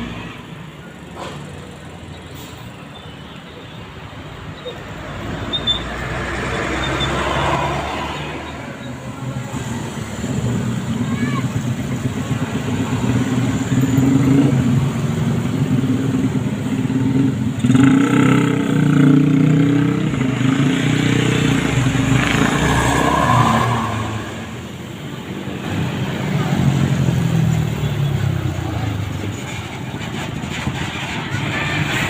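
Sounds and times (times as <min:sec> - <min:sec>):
bus engine passing: 0:03.8 - 0:32.0.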